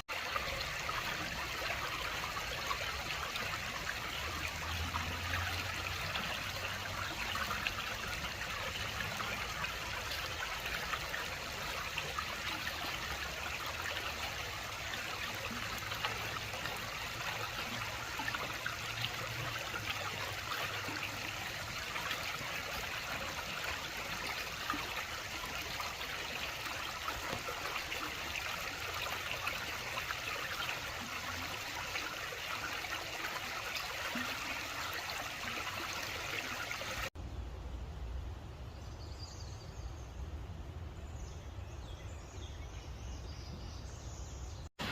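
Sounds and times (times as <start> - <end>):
running water rushing: 0.0 - 37.2.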